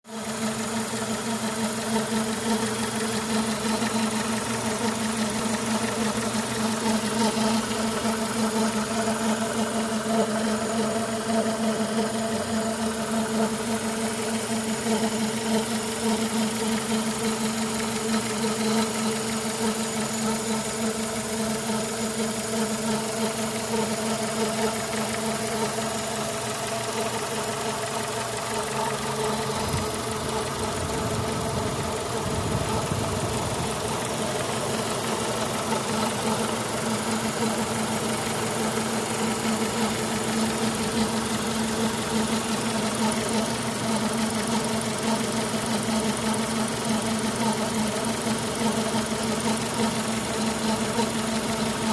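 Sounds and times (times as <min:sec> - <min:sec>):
car engine idling: 0:00.1 - 0:51.9
grinding squeaking engine noise: 0:01.5 - 0:51.9.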